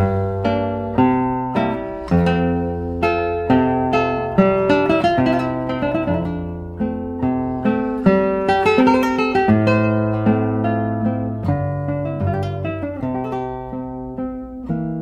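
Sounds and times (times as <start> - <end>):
acoustic guitar melody: 0.0 - 15.0.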